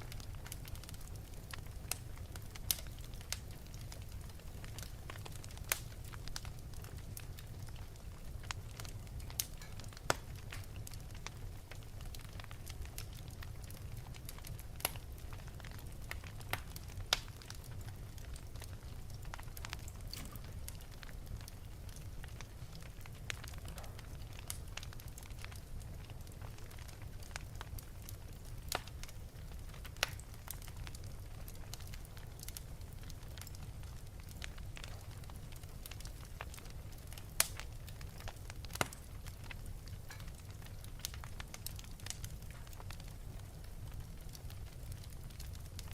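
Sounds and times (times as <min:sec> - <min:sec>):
wood fire crackling in fireplace: 0:00.0 - 0:45.9.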